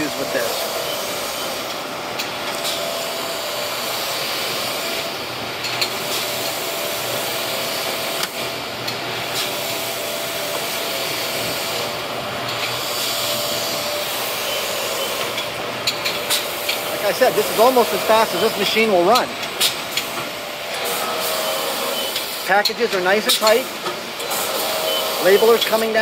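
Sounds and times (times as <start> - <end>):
machine belts and rollers running: 0.0 - 26.0.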